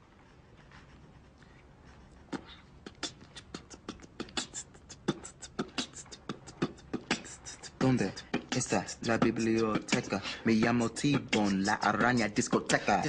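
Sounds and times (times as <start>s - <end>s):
mouth beatboxing: 2.2s - 13.0s.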